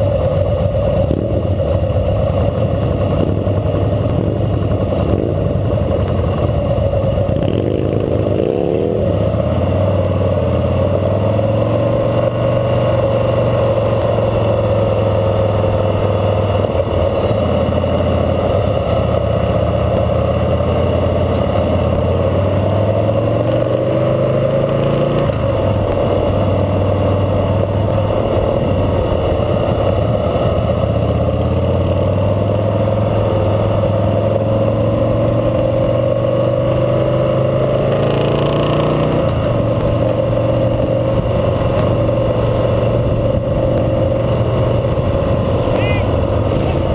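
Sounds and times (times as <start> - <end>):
motorcycle engine running: 0.0 - 46.9
other motorcycles: 0.0 - 46.9.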